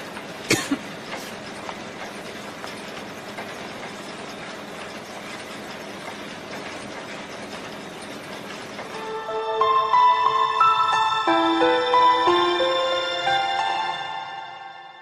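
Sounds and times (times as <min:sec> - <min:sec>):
mill machinery clattering: 0:00.0 - 0:14.5.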